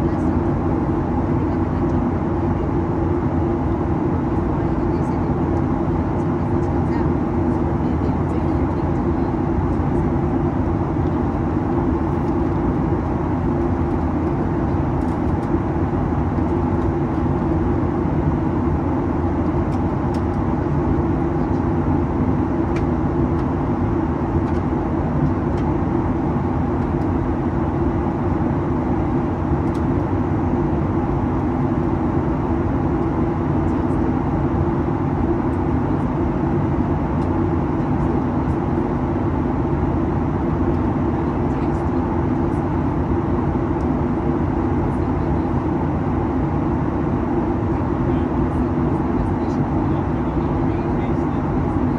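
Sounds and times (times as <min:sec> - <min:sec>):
jet engine drone: 0:00.0 - 0:51.9.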